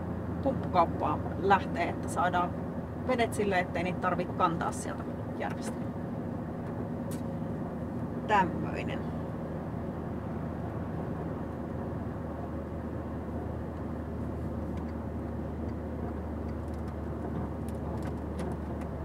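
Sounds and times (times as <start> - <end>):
car engine and road drone: 0.0 - 19.0.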